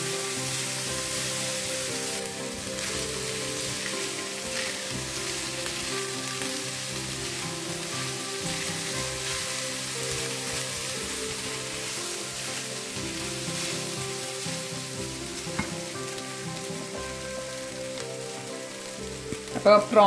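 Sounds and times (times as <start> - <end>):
background music: 0.0 - 20.0
fried rice sizzling in a pan: 0.0 - 20.0.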